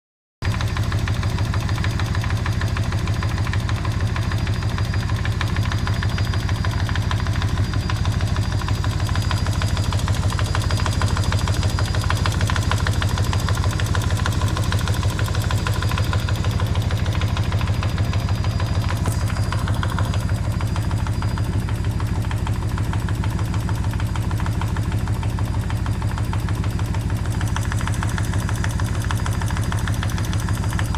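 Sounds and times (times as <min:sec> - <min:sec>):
motorcycle engine idling: 0:00.4 - 0:30.9.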